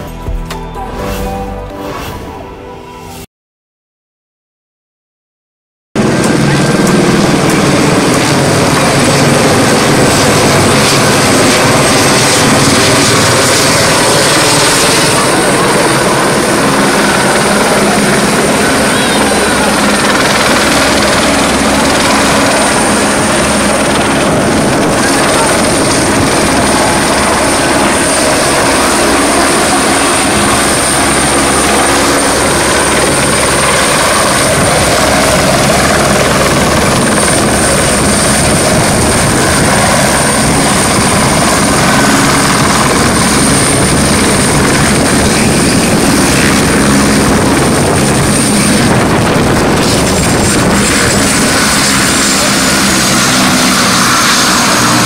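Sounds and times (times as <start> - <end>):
high whine: 0.0 - 3.3, 6.0 - 55.0
helicopter rotor and engine: 6.0 - 55.0.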